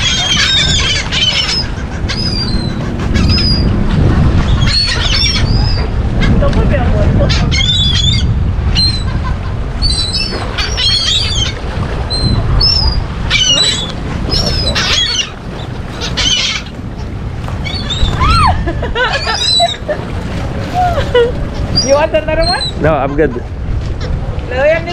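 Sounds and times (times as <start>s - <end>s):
seagulls squawking: 0.0s - 24.9s
steady low rumble: 0.0s - 24.9s.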